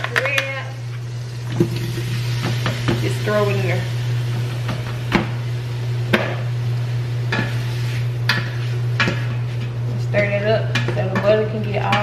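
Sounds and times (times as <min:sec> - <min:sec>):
steady low hum: 0:00.0 - 0:12.0
seafood sizzling in butter: 0:00.2 - 0:10.8.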